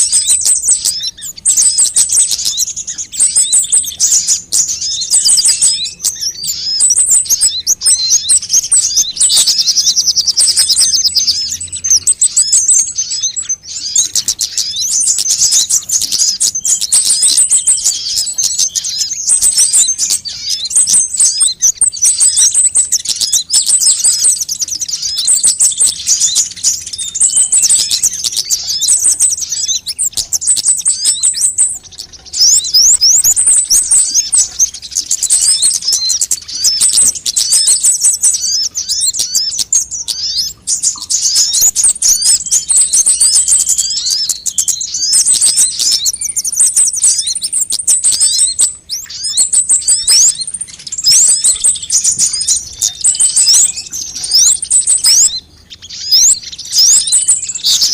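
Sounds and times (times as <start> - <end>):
bird chittering trills: 0.0 - 57.9
high whistled bird notes: 0.0 - 57.9.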